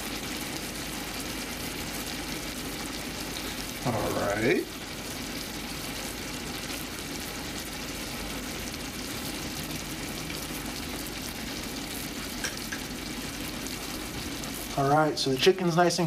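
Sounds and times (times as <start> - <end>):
chicken sizzling in frying pan: 0.0 - 16.0.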